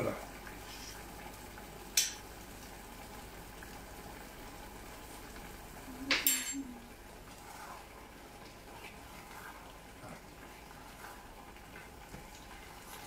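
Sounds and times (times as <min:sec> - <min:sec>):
soup bubbling in a pot: 0:00.0 - 0:13.0.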